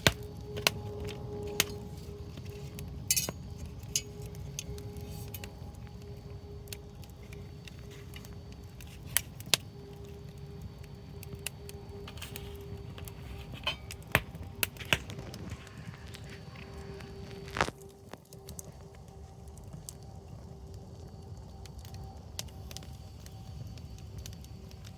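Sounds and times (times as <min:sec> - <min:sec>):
bonfire burning with low rush: 0:00.0 - 0:24.9
fire crackling pops: 0:00.0 - 0:24.9.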